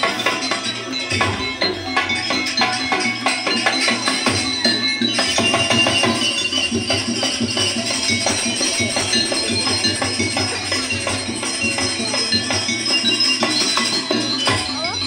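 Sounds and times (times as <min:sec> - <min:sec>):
gamelan ensemble playing: 0:00.0 - 0:15.0
jingling bells: 0:00.0 - 0:15.0.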